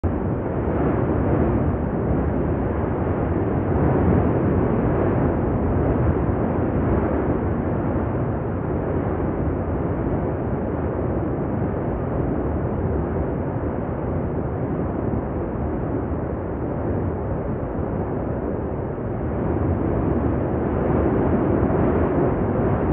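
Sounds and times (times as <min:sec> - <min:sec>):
volcano rumbling: 0:00.0 - 0:22.9.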